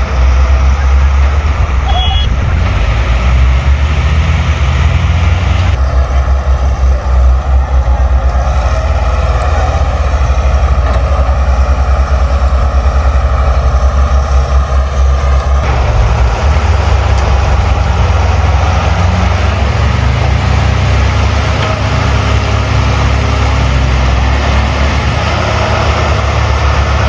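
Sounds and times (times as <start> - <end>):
heavy vehicle engine rumbling: 0.0 - 27.0.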